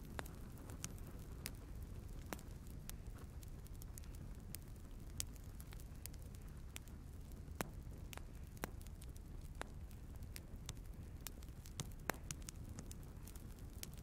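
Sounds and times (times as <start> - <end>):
faint low rumble: 0.0 - 14.0
firewood crackling and popping: 0.0 - 14.0.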